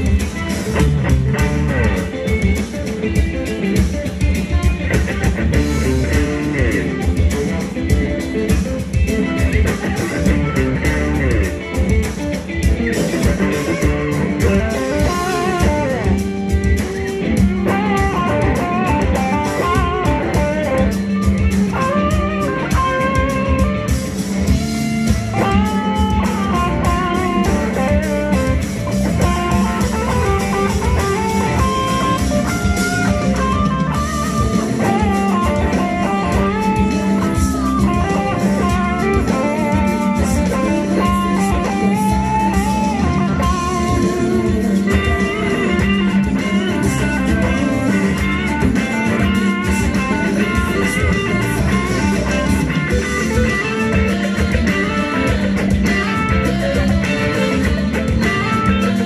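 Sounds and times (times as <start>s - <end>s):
blues electric guitar: 0.0s - 59.0s
drums: 0.0s - 59.0s.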